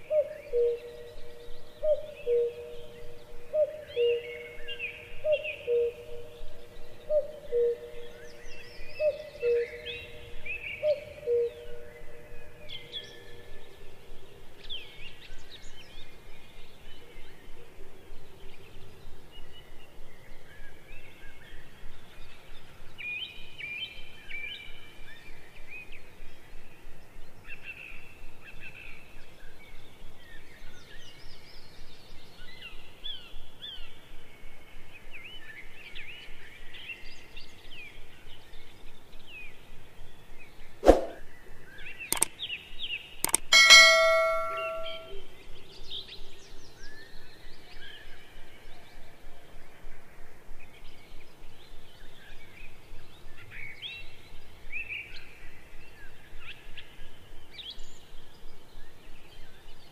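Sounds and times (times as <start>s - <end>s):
faint steady hiss: 0.0s - 59.9s
songbirds chirping and trilling: 0.0s - 59.9s.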